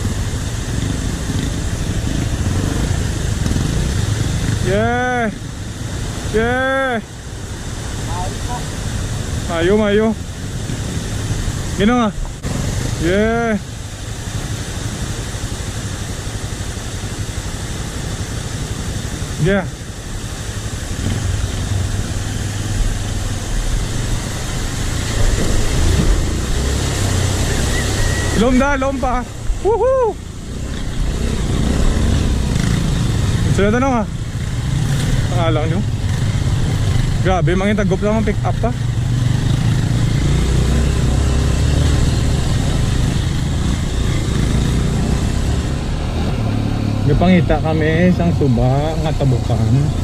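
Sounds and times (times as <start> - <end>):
motorcycle engine at low revs: 0.0 - 50.0
steady rushing hiss: 0.0 - 50.0.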